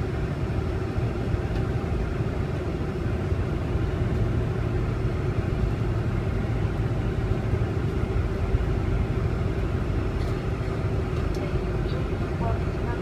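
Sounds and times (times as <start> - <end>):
airplane cabin rumble and hum: 0.0 - 13.0.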